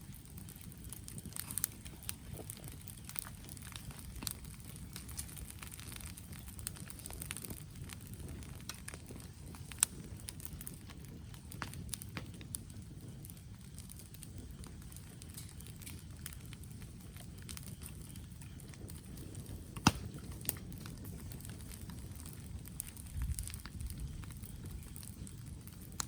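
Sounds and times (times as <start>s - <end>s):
campfire crackling: 0.0s - 26.0s
fire popping: 0.0s - 26.0s.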